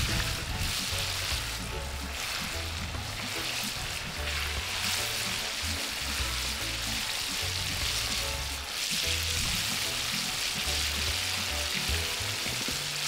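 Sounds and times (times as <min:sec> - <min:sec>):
background music with low bass: 0:00.0 - 0:13.0
chicken sizzling in hot oil: 0:00.0 - 0:13.0.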